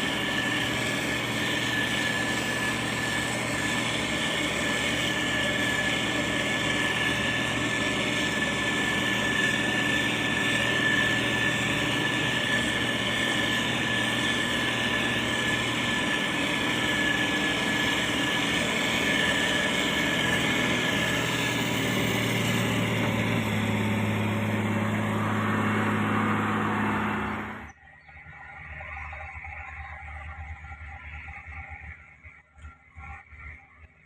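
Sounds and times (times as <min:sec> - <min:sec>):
diesel engine running: 0:00.0 - 0:33.4
high whine: 0:00.0 - 0:34.0.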